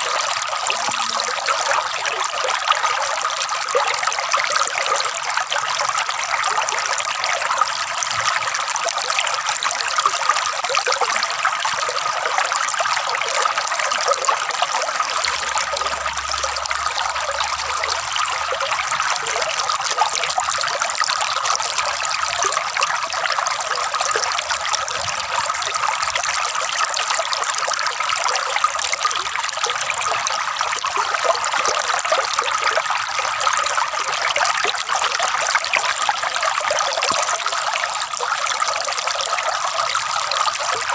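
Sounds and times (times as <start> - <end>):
water trickling and gurgling: 0.0 - 40.9.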